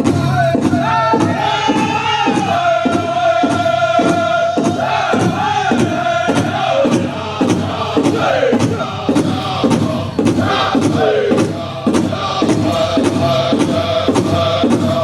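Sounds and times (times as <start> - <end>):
big drum fast steady beat: 0.0 - 15.0
group singing in high voices: 0.0 - 15.0.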